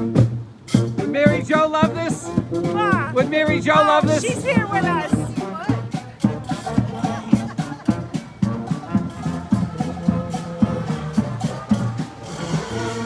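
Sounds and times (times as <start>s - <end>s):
horns holding notes: 0.0s - 13.0s
steady drum beat: 0.0s - 13.0s
street band playing: 0.0s - 13.0s.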